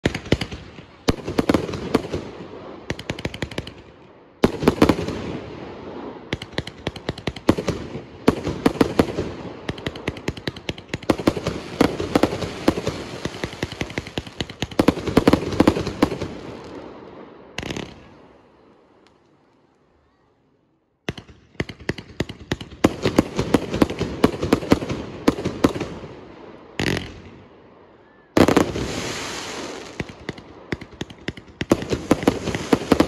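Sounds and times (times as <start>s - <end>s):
crackling firework stars: 0.0s - 33.0s.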